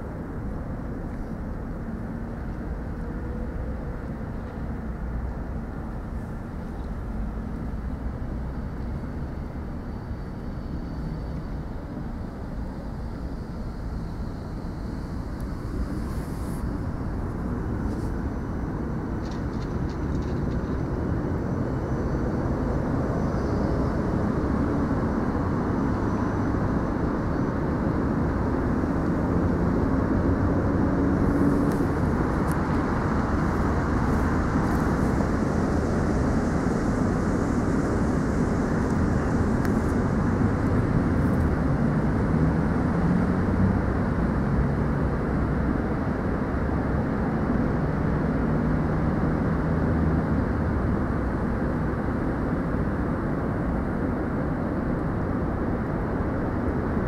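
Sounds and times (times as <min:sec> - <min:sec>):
low rumbling background noise: 0:00.0 - 0:57.0.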